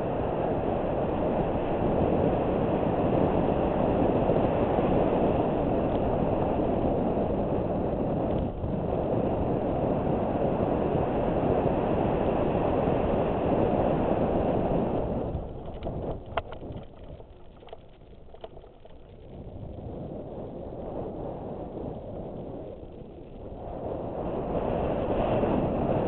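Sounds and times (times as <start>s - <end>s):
bicycle tyres rolling on dirt: 0.0s - 26.0s
wind rushing over camera: 0.0s - 26.0s.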